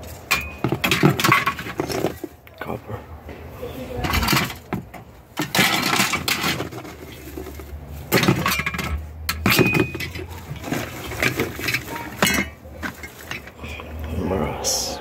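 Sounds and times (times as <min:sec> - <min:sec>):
scrap metal rustling and clinking: 0:00.0 - 0:02.4, 0:04.0 - 0:14.1.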